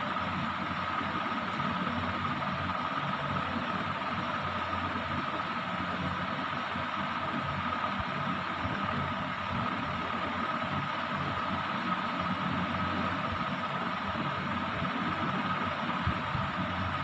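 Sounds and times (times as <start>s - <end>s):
steady mechanical hum: 0.0s - 17.0s
thin constant whine: 0.0s - 17.0s.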